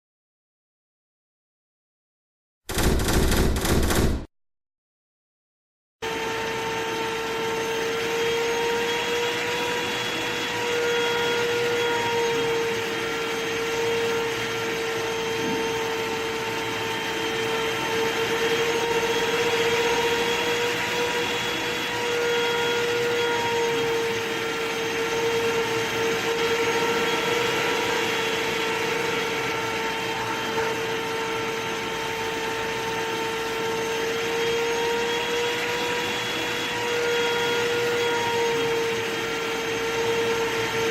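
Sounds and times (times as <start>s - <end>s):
vacuum cleaner running: 6.0s - 40.9s.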